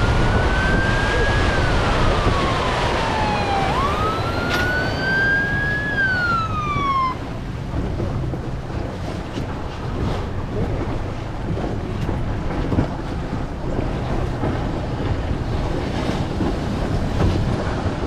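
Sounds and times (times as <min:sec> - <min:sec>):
boat engine rumble: 0:00.0 - 0:18.0
water rushing past hull: 0:00.0 - 0:18.0
wind buffeting microphone: 0:00.0 - 0:18.0.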